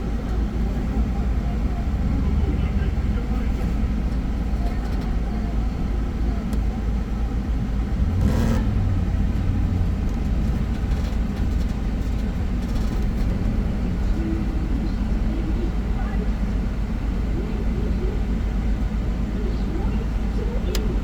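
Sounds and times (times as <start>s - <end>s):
motorboat engine rumbling: 0.0s - 21.0s.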